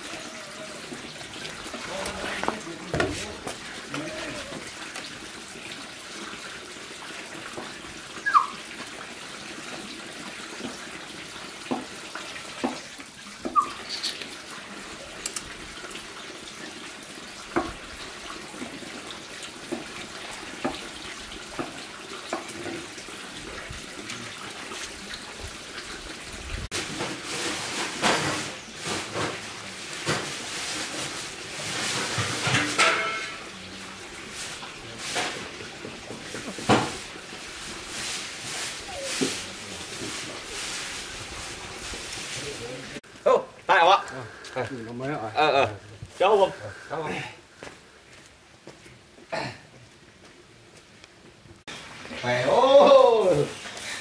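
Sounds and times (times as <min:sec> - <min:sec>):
water running and splashing: 0:00.0 - 0:47.6, 0:49.0 - 0:54.0.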